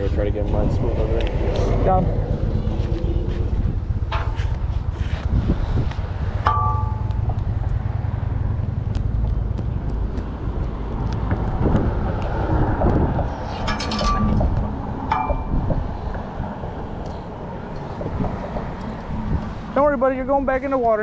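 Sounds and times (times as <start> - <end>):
wind on microphone: 0.0 - 20.5
traffic on a bridge: 0.0 - 21.0.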